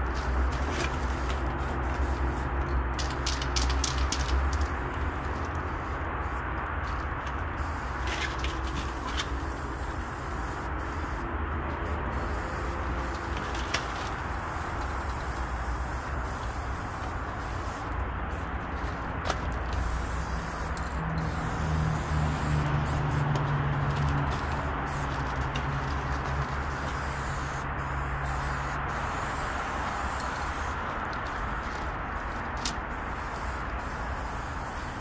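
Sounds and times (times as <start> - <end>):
spray-paint can hissing: 0.1 - 7.0, 7.6 - 11.2, 11.8 - 35.0.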